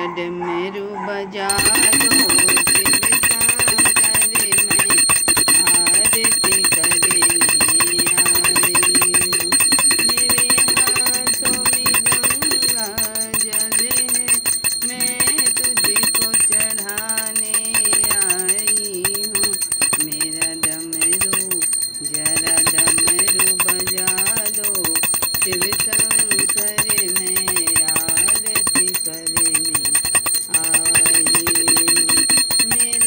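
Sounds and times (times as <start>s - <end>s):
woman singing devotional melody: 0.0s - 33.0s
hand bell rung rapidly: 1.5s - 33.0s.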